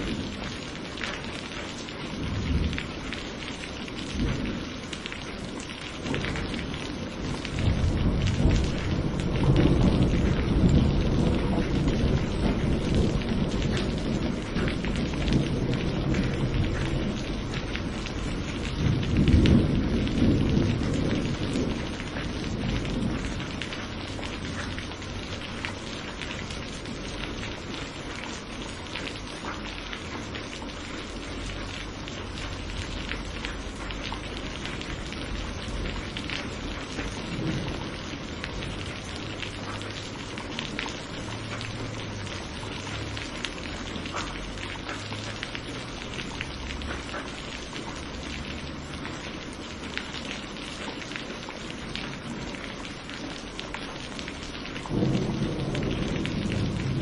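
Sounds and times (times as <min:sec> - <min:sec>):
heavy rain: 0:00.0 - 0:57.0
thunder rumbling: 0:02.0 - 0:28.9, 0:29.5 - 0:49.9, 0:51.8 - 0:57.0.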